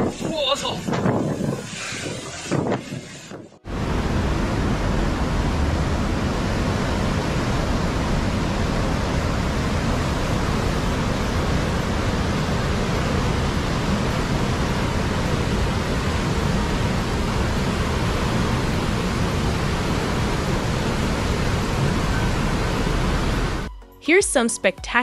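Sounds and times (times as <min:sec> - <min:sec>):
flooded river roaring: 0:00.0 - 0:23.7.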